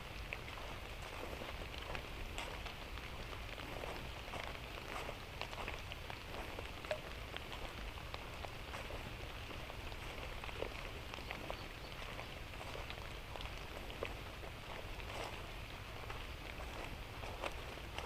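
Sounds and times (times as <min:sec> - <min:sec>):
light rain falling: 0:00.0 - 0:18.0
raindrops ticking on surfaces: 0:00.0 - 0:18.0.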